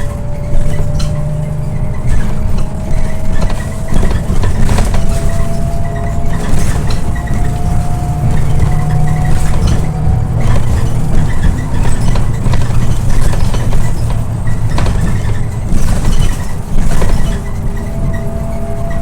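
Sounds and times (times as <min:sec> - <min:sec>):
bus body knocking and rattling: 0:00.0 - 0:19.0
bus engine and road rumble: 0:00.0 - 0:19.0.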